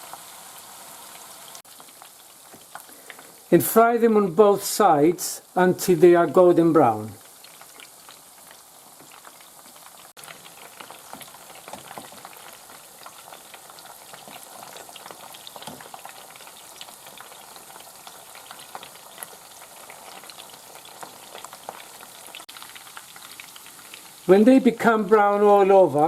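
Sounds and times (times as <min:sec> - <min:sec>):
meatballs sizzling in oil: 0:00.0 - 0:26.0.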